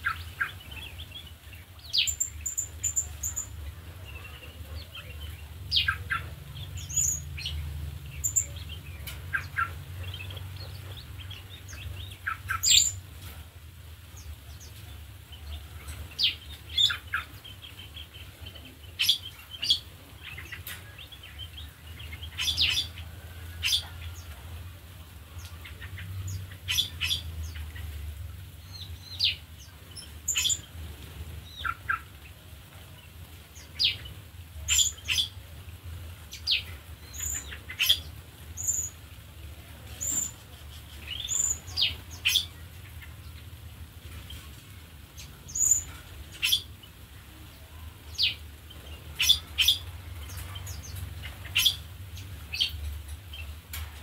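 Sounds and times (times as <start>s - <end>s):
small birds chirping and whistling: 0.0s - 13.4s, 14.1s - 24.4s, 25.3s - 39.2s, 39.8s - 54.0s.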